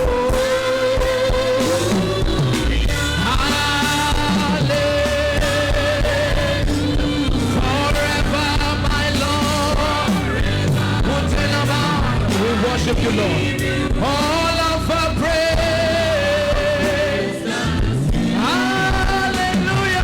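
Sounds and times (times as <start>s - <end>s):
person singing: 0.0s - 20.0s
worship band playing: 0.0s - 20.0s.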